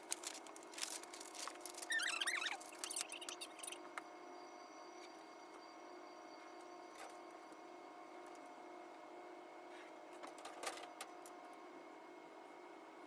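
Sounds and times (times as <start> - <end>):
faint steady hum with tones: 0.0 - 13.0.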